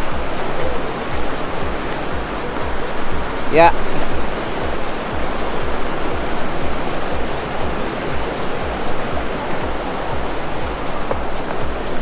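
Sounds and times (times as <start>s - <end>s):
background music with beat: 0.0s - 12.0s
flowing water rushing: 0.0s - 12.0s.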